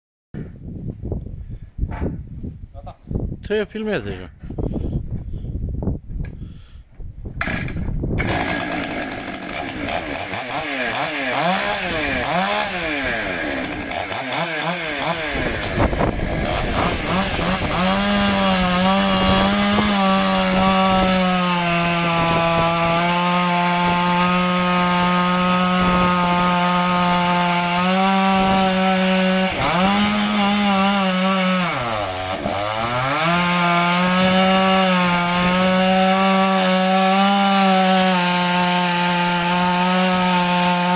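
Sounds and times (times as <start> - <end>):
chainsaw cutting logs: 7.4 - 40.9.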